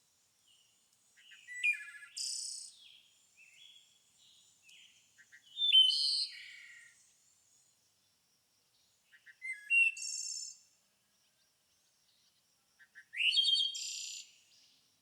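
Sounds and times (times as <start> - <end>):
songbird singing: 0.4 - 7.7, 8.7 - 14.9.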